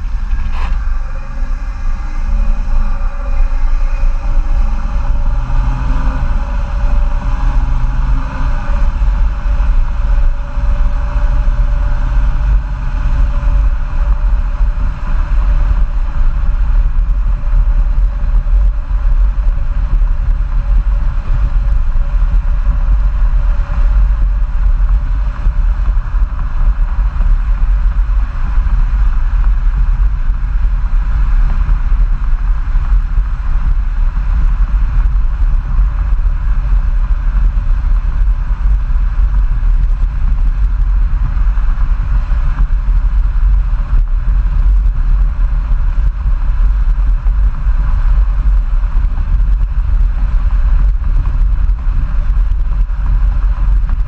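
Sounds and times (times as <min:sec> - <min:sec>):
diesel engine exhaust while driving: 0:00.0 - 0:54.0
road noise: 0:00.0 - 0:54.0
wind rumble on microphone: 0:00.0 - 0:54.0.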